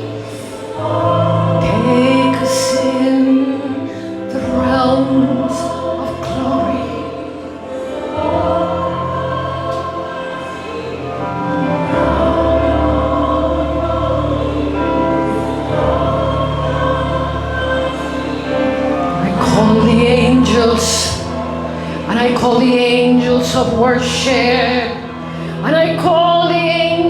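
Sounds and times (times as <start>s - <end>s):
choir-like held voices: 0.0s - 27.0s
slow worship music: 0.0s - 27.0s.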